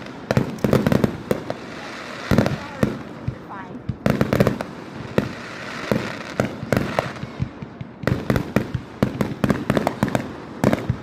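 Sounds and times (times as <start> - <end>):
fireworks cracking and banging: 0.0 - 11.0.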